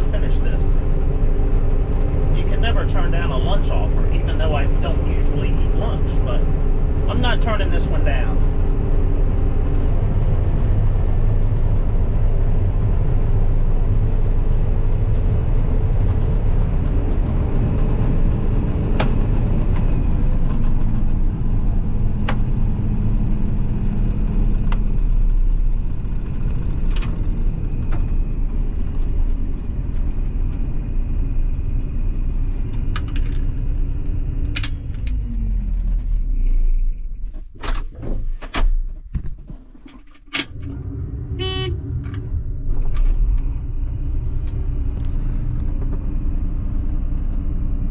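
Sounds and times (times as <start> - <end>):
combine harvester rumbling: 0.0 - 38.4, 39.6 - 47.9.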